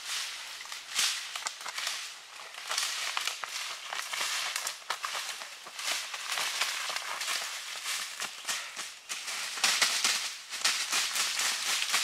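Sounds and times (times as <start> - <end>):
bird wings beating in leaves: 0.0 - 12.0
footsteps crunching dry leaves: 0.0 - 12.0.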